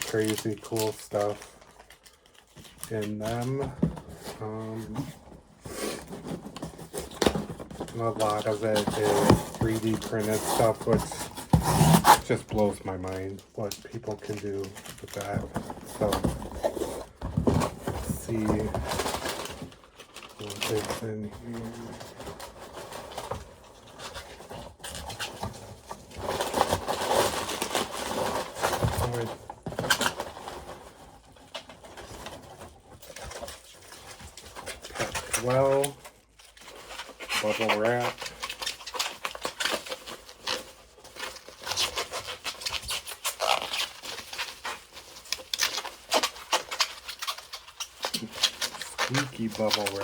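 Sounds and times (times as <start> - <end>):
packaging crinkling and rustling: 0.0 - 50.0.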